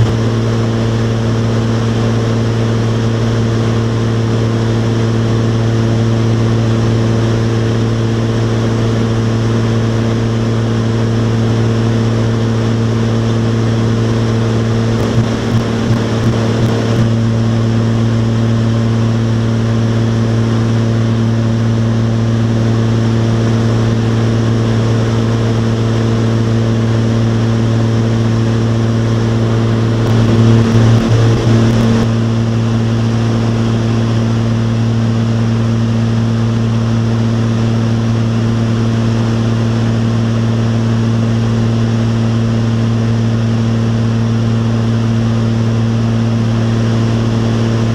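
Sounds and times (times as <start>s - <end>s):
propeller aircraft cabin drone: 0.0s - 47.9s
rumble: 0.0s - 47.9s.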